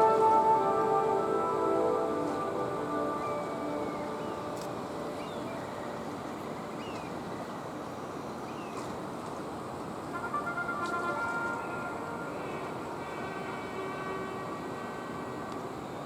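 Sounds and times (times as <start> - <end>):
harbour ambience: 0.0 - 16.0.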